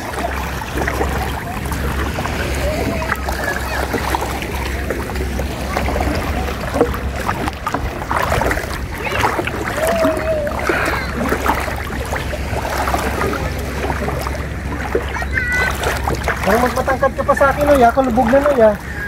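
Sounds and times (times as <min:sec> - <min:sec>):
steady low rumble: 0:00.0 - 0:19.0
water splashing from wading: 0:00.0 - 0:19.0.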